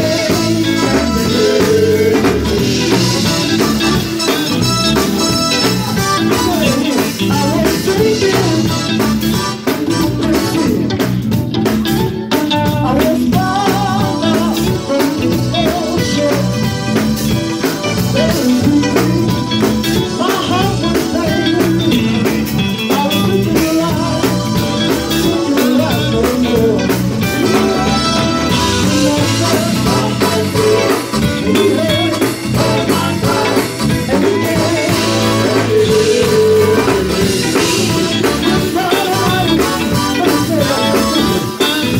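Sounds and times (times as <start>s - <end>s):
male vocal quartet singing: 0.0s - 4.0s, 6.3s - 9.0s, 12.7s - 16.8s, 18.0s - 22.3s, 22.9s - 41.9s
band with drum kit: 0.0s - 41.9s.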